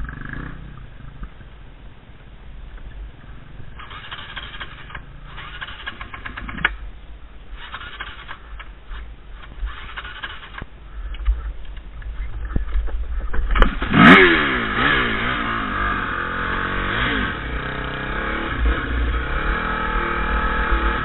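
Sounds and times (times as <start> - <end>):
dirt bike engine at low revs: 0.0 - 21.0.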